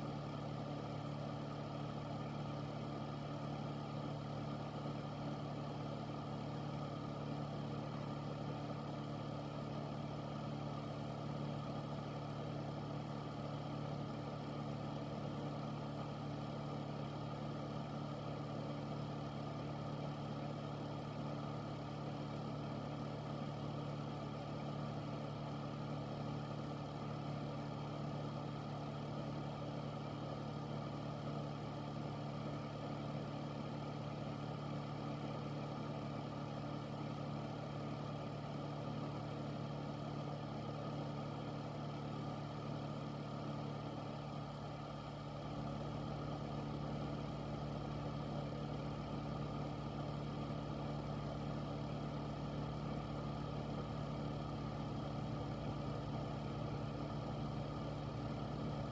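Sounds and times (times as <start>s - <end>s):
air filter fan humming: 0.0s - 58.9s.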